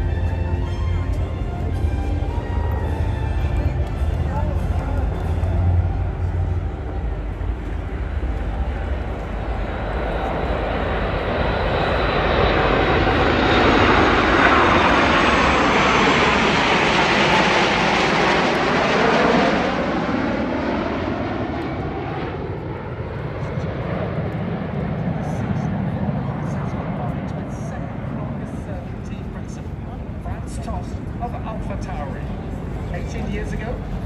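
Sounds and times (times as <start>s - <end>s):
jet airliner flying overhead: 0.0s - 34.0s.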